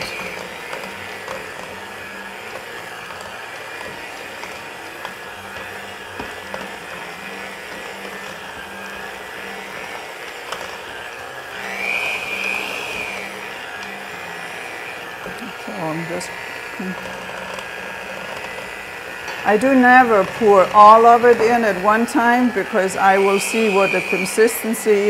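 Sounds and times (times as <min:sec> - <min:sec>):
electric hand mixer motor whine: 0:00.0 - 0:25.0.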